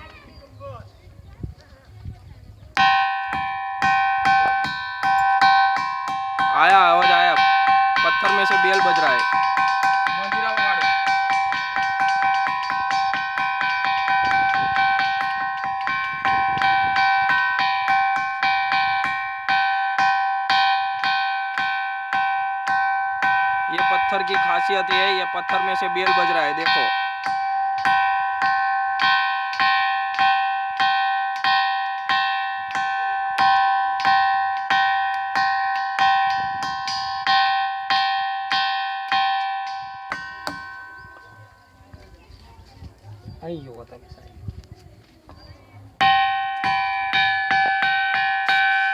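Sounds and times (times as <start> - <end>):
ringing rock struck with stone: 2.8 - 24.3, 24.9 - 42.0, 46.0 - 48.9.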